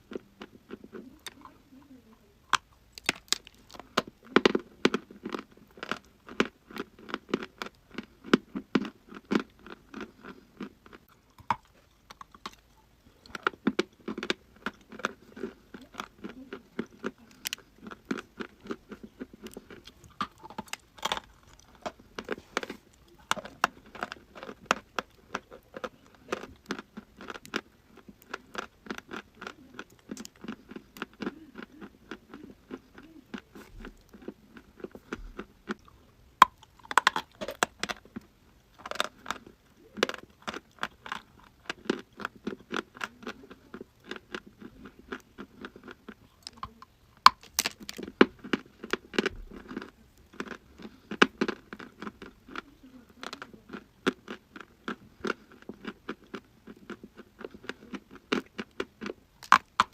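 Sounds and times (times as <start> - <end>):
person chewing crunchy chalk: 2.5 - 59.9.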